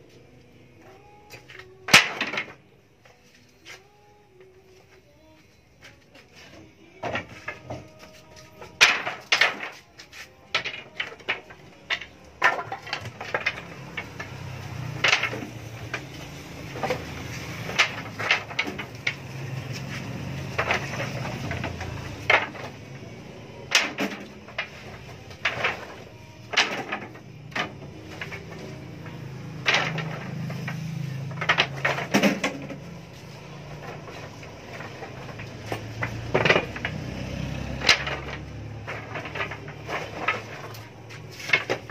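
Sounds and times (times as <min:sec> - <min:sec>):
wooden boards clattering: 0:00.9 - 0:02.6, 0:06.5 - 0:41.9.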